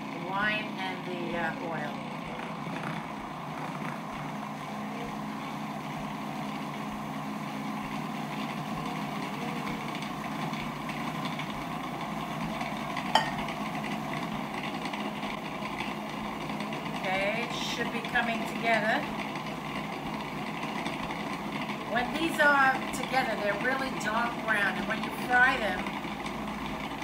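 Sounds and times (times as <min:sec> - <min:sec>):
food processor motor running: 0:00.0 - 0:27.0.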